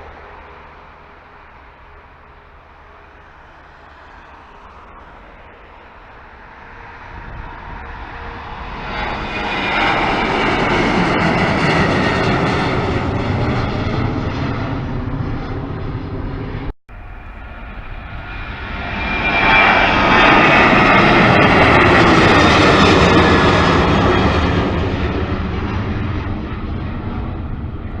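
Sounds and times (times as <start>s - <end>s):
airliner engine passing: 0.0s - 28.0s.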